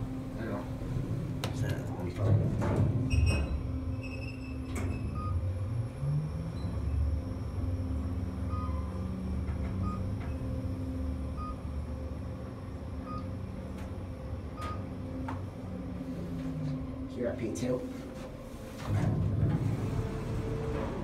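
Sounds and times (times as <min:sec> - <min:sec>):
elevator hum and rumble: 0:00.0 - 0:21.0.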